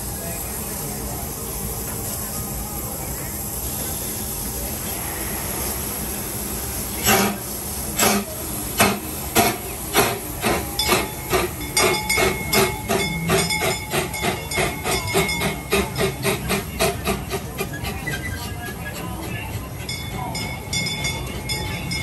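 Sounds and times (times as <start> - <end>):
steam hissing: 0.0 - 22.0
steam locomotive exhaust chuffs: 0.0 - 22.0.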